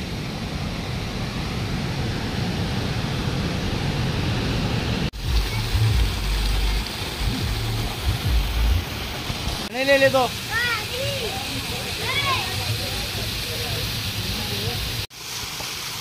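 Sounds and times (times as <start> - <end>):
river rushing over boulders: 0.0 - 16.0
small waterfall splashing: 2.2 - 16.0.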